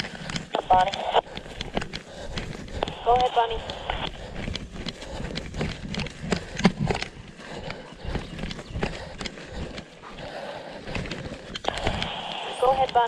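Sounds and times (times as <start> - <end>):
footsteps through undergrowth: 0.0 - 13.0.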